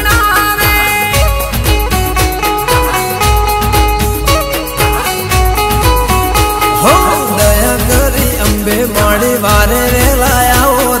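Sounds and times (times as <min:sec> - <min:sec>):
plucked string melody: 0:00.0 - 0:11.0
steady beat: 0:00.0 - 0:11.0.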